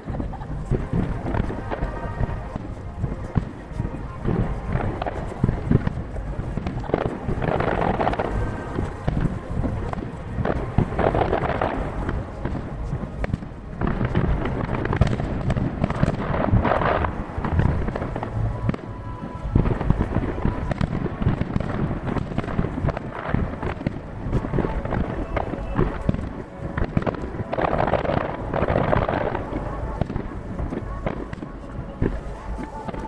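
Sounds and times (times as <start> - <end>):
continuous low rumble: 0.0 - 33.0
fireworks crackling: 0.0 - 33.0.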